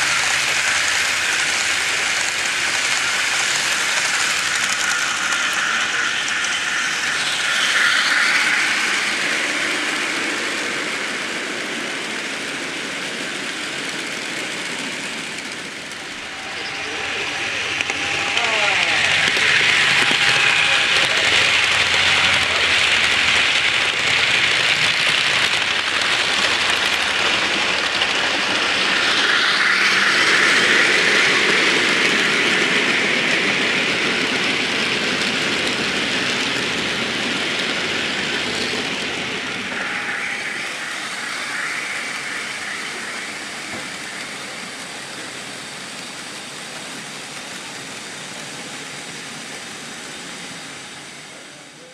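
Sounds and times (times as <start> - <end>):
model train wheels rattling on rails: 0.0 - 51.9.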